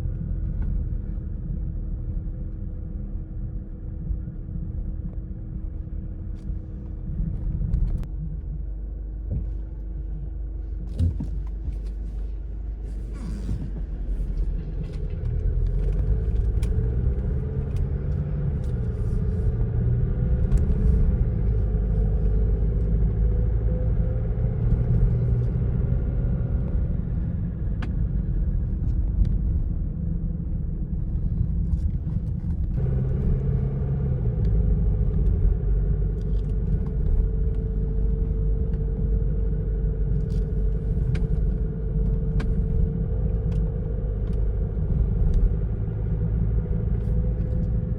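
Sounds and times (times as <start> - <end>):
car tyres and engine rumble: 0.0 - 47.9.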